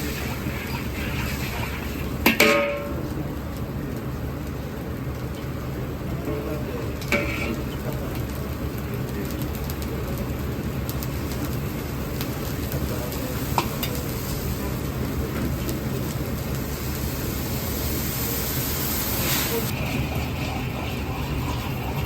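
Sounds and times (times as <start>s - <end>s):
oil sizzling while deep-frying: 0.0s - 22.0s.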